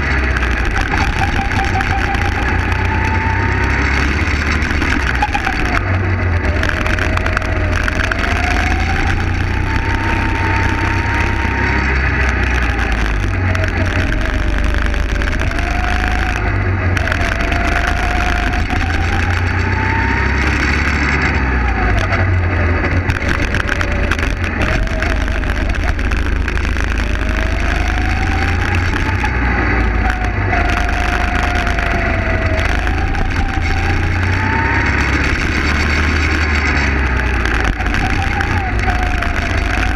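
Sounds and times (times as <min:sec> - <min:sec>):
kart engine accelerating and slowing: 0:00.0 - 0:39.9
wind rumble on microphone: 0:00.0 - 0:39.9.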